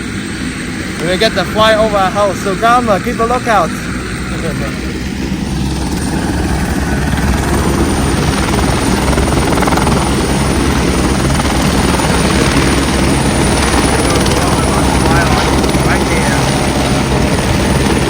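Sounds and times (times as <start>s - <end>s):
helicopter rotor chop: 0.0s - 18.0s.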